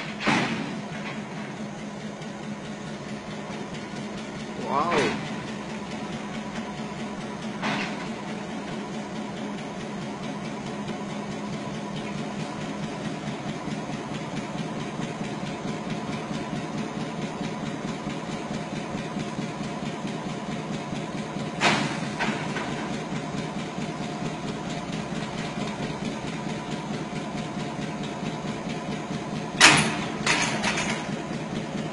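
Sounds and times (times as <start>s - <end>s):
locomotive engine idling: 0.0s - 31.9s.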